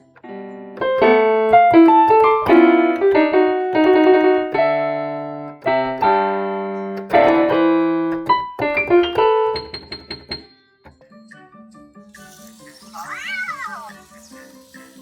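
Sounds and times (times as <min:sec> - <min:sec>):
keyboard music: 0:00.0 - 0:14.2.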